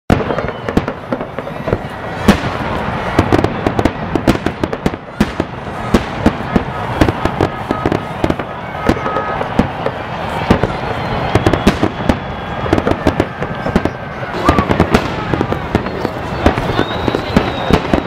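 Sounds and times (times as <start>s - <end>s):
fireworks pops and cracks: 0.1s - 18.0s
loud firework bangs: 0.1s - 18.0s.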